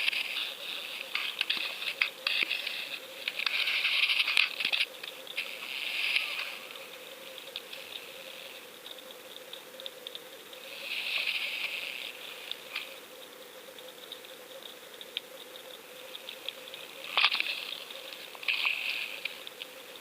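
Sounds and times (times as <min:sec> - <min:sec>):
faint steady hum: 0:00.0 - 0:20.0
underwater sand crackling and rattling: 0:00.0 - 0:20.0.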